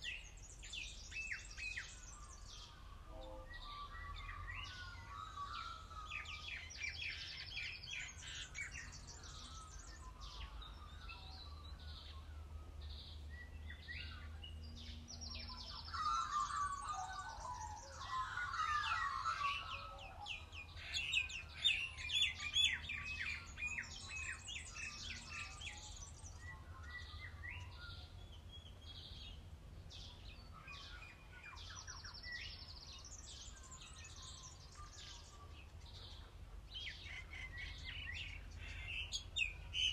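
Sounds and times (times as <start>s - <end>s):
birds chirping and warbling: 0.0s - 39.9s.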